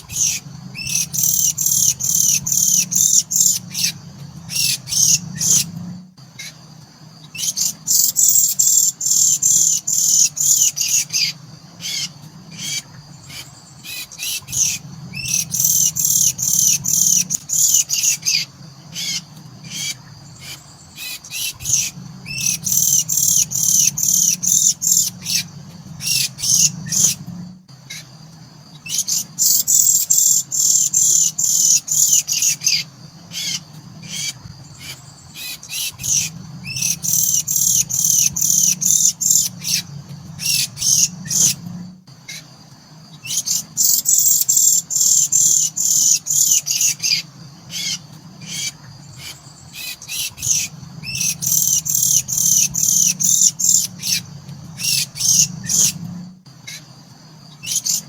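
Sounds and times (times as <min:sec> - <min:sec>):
birds chirping high-pitched: 0:00.0 - 0:58.0.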